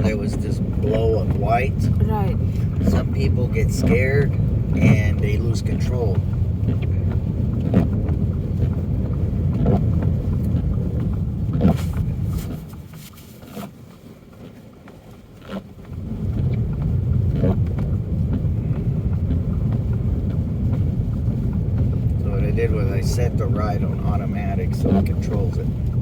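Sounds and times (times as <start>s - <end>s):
tyre and engine rumble: 0.0s - 26.0s.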